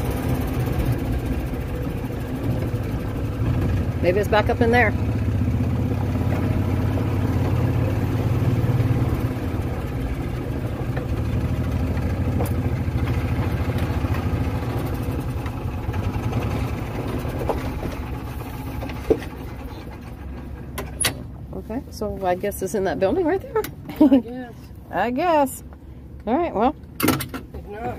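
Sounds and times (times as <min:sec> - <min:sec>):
golf cart rumbling on gravel: 0:00.0 - 0:24.2.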